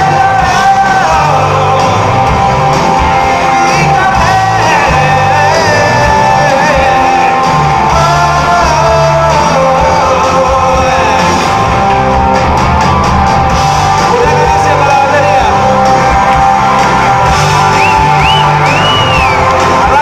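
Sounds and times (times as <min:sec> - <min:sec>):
bass guitar: 0:00.0 - 0:20.0
drums: 0:00.0 - 0:20.0
electric guitar: 0:00.0 - 0:20.0.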